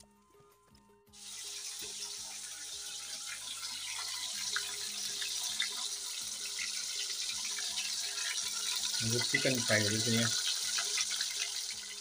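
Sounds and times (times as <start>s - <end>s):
chicken sizzling in hot oil: 1.2s - 12.0s.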